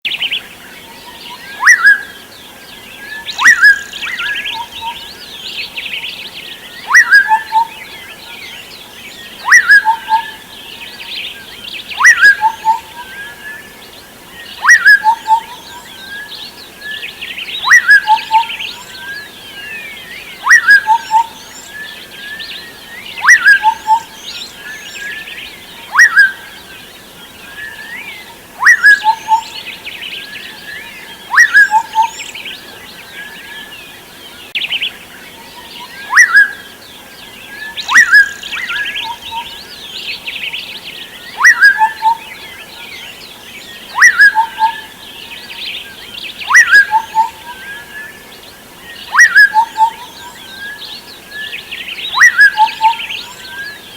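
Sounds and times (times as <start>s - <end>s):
small birds twittering: 0.0s - 53.9s.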